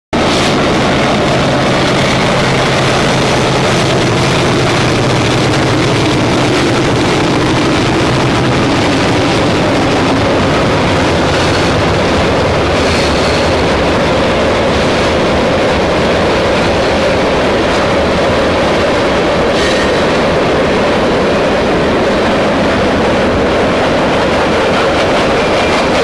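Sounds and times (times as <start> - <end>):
freight train rumble: 0.1 - 26.0
diesel locomotive engine hum: 0.2 - 26.0.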